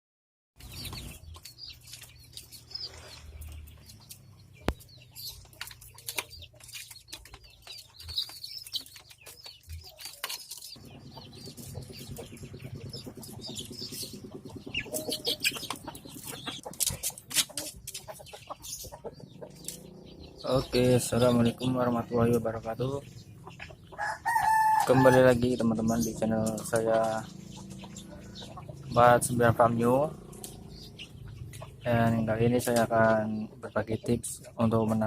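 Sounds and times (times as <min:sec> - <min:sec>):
chickens clucking and chirping: 0:00.6 - 0:35.0.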